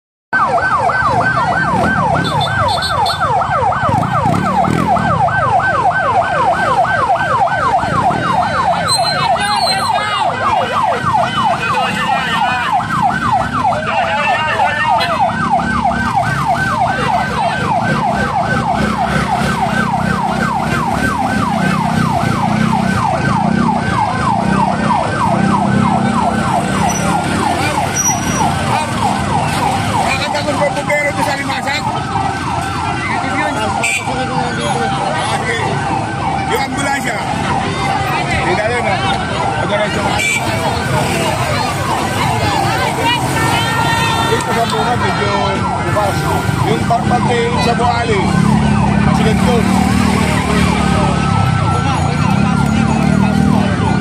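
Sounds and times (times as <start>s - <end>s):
electronic siren yelping: 0.4s - 54.0s.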